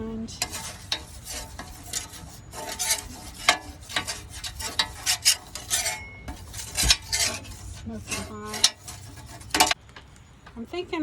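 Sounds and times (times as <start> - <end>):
scraping on a griddle: 0.0 - 9.8.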